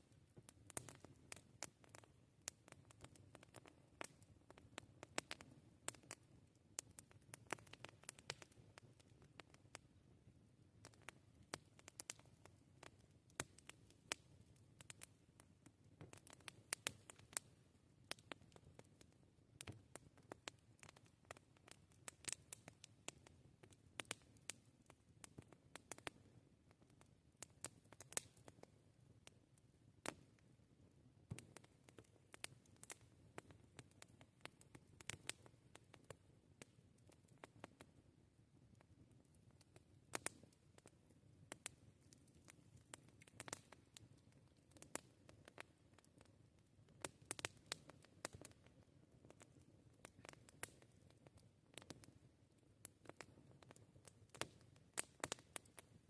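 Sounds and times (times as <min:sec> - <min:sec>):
campfire crackling and popping: 0:00.0 - 0:38.0, 0:38.7 - 0:56.0.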